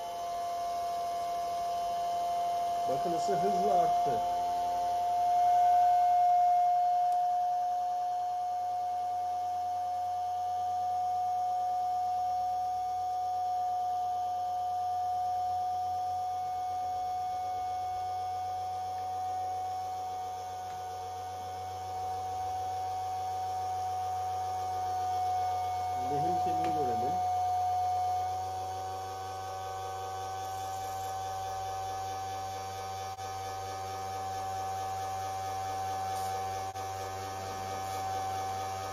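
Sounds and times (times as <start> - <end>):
electric motor high whine: 0.0 - 38.9.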